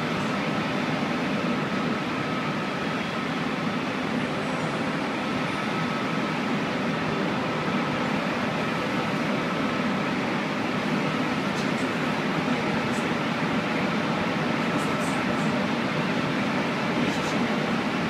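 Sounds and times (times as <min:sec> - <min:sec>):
train running noise from inside: 0:00.0 - 0:18.0.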